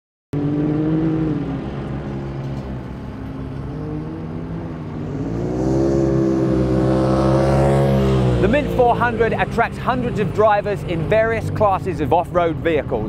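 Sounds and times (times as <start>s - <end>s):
race vehicle engine running: 0.4s - 13.0s.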